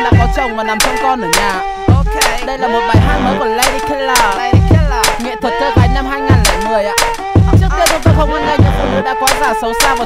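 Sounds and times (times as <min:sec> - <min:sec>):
hip-hop music with steady beat: 0:00.0 - 0:10.0.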